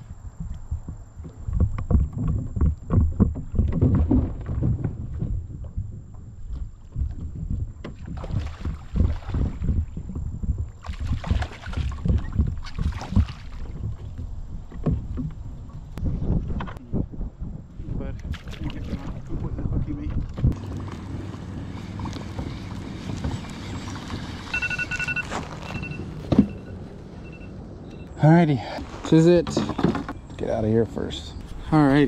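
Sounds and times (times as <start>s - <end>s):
wind on microphone: 0.0s - 28.0s.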